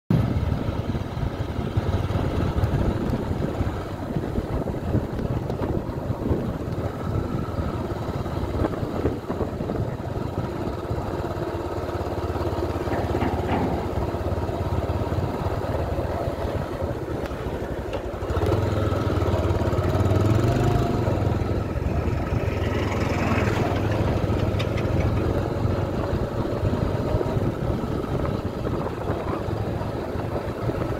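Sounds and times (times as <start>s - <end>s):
road noise: 0.1s - 30.9s
vehicle engine rumble: 0.1s - 30.9s.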